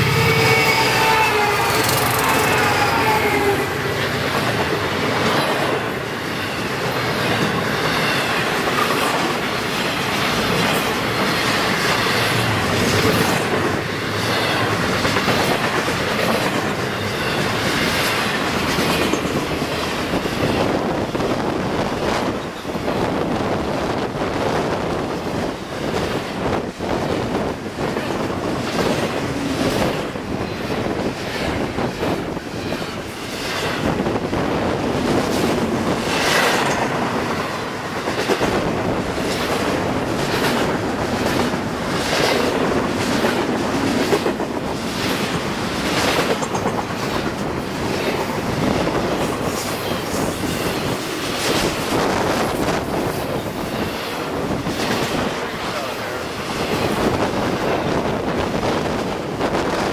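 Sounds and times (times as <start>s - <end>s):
train wheel clacks: 0.0s - 23.0s, 25.6s - 59.9s
steel wheels rumbling on rail: 0.0s - 59.9s.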